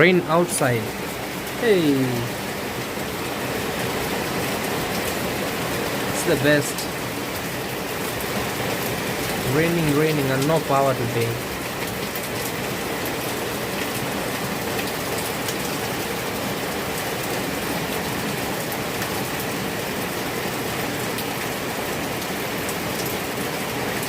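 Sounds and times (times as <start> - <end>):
steady rain with ticking drops: 0.0 - 24.0.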